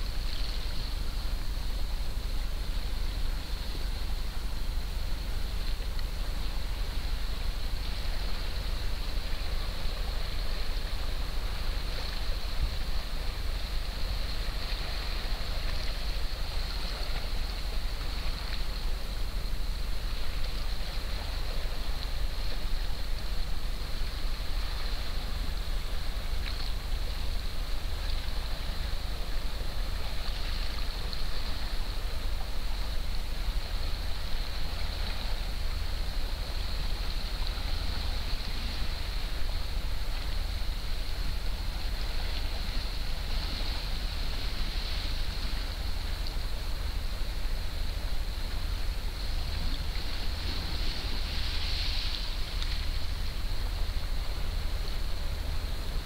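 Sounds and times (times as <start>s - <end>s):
sea water and slush ice hissing: 0.0s - 56.0s
wind rumble on microphone: 0.0s - 56.0s.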